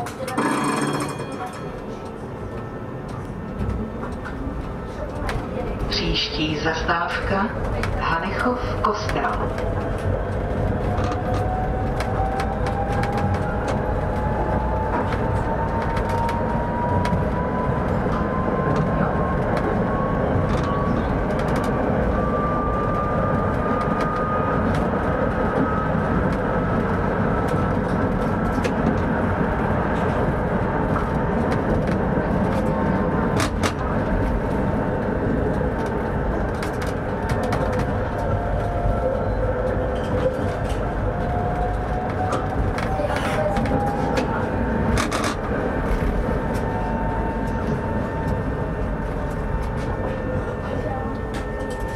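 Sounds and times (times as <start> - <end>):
tram wheels rumbling on rails: 0.0 - 51.9.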